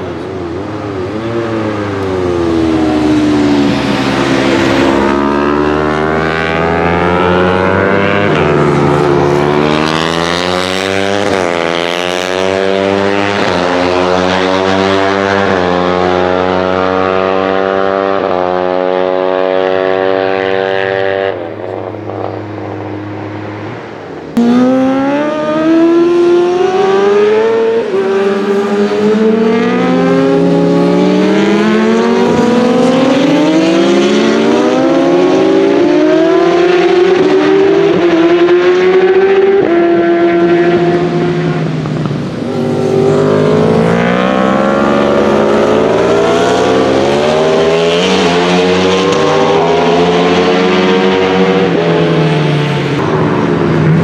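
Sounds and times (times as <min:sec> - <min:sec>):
racing motorcycles accelerating: 0:00.0 - 0:54.0.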